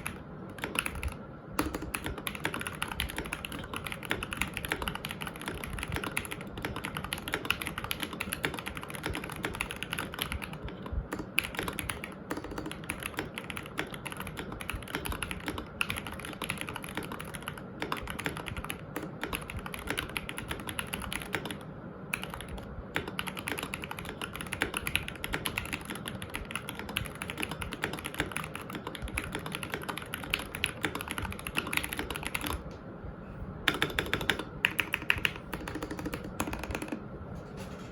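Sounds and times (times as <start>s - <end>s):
mechanical keyboard typing: 0.0s - 32.7s, 33.7s - 37.0s.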